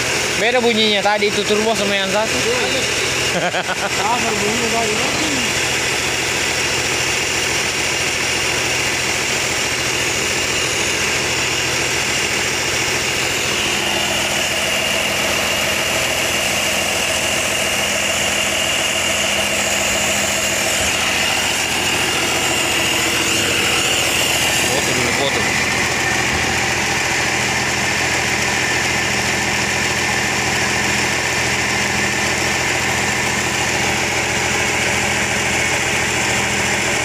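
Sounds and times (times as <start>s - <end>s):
diesel engine running: 0.0s - 37.0s
high whine: 0.5s - 36.9s.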